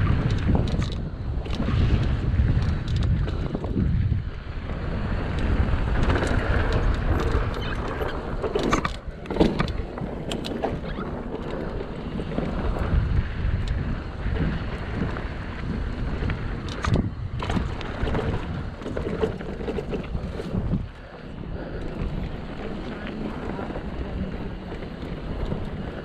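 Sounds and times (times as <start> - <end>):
bike knocking and rattling: 0.0 - 26.0
tyres rushing on dirt trail: 0.0 - 26.0
wind buffeting microphone: 0.0 - 26.0.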